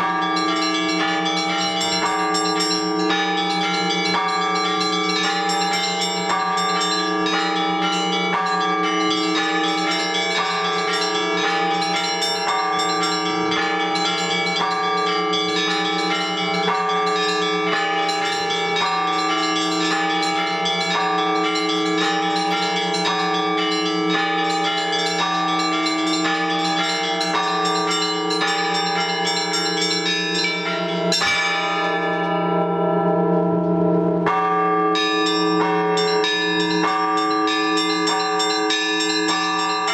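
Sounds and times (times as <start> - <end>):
small and middle bells struck: 0.0 - 32.4, 34.2 - 39.9
low bell hum: 0.0 - 39.9.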